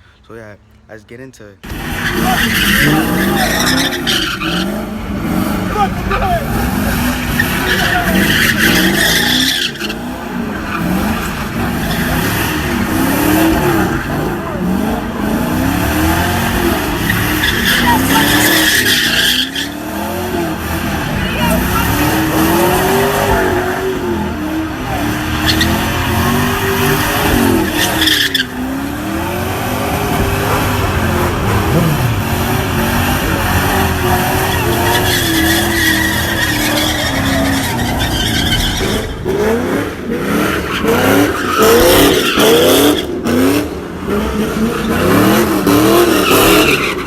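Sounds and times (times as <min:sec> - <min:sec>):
tyres squealing: 0:00.0 - 0:43.4, 0:44.4 - 0:47.0
car engine revving: 0:01.6 - 0:47.0.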